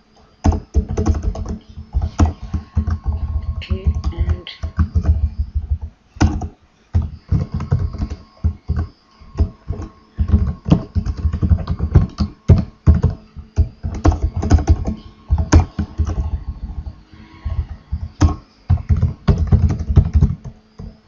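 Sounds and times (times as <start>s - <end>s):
fast typing on keyboard: 0.4s - 21.0s.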